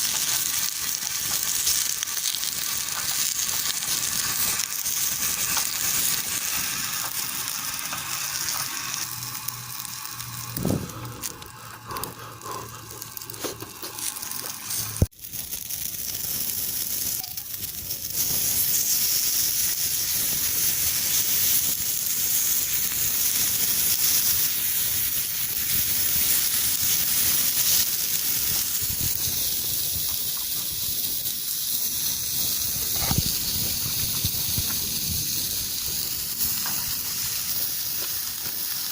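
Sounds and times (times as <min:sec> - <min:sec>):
meat sizzling on griddle: 0:00.0 - 0:38.9.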